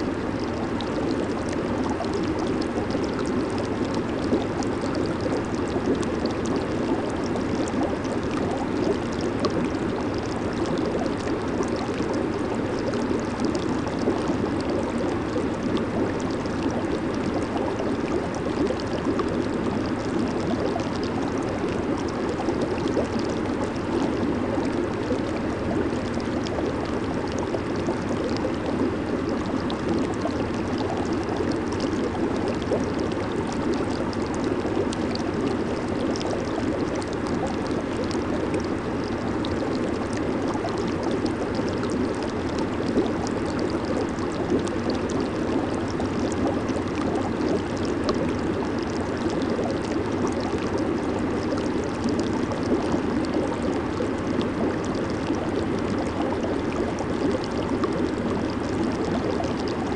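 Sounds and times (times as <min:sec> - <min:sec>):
jacuzzi water bubbling: 0:00.0 - 0:59.9.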